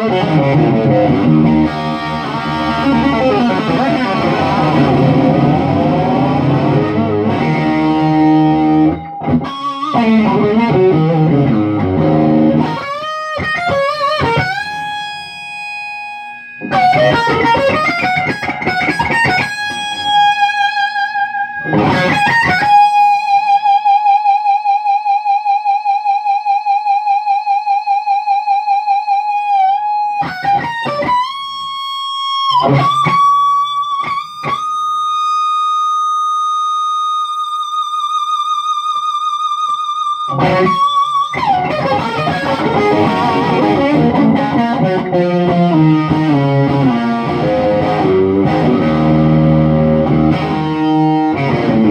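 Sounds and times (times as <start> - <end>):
electric guitar through amplifier: 0.0 - 51.9.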